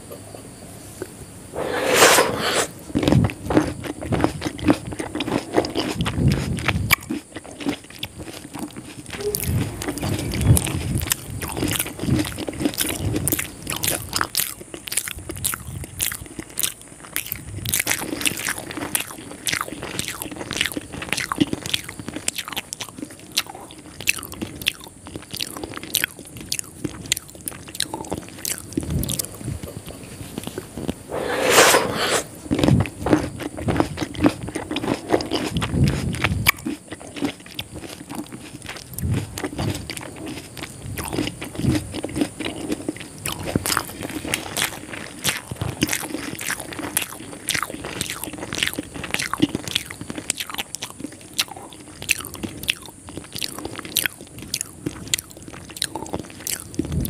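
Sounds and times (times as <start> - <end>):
crunching fried chicken: 2.4 - 57.0.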